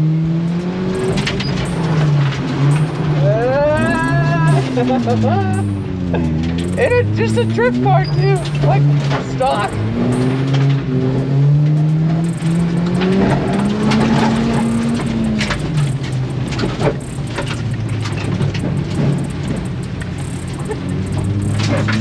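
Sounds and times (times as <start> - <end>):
car engine accelerating: 0.0 - 22.0
knocks and clatter: 0.4 - 22.0.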